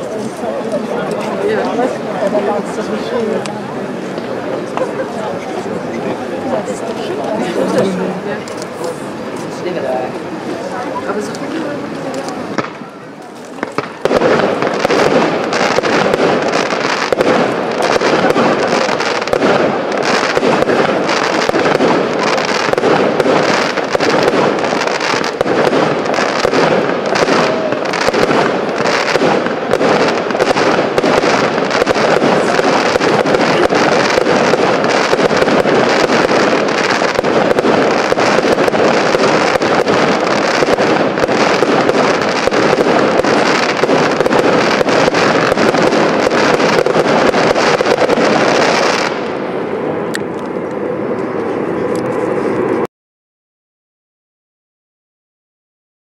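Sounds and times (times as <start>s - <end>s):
fireworks crackling: 0.0s - 52.9s.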